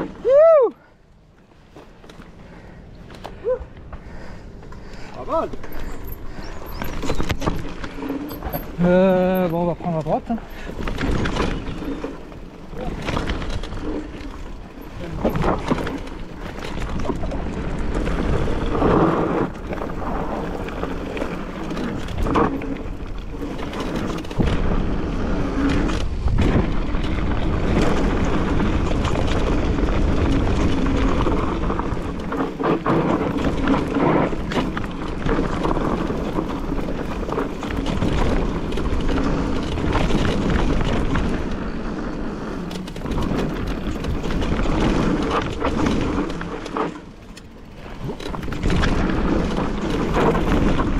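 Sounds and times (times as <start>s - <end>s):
bike clattering over bumps: 3.0s - 50.9s
wind buffeting microphone: 3.7s - 50.9s.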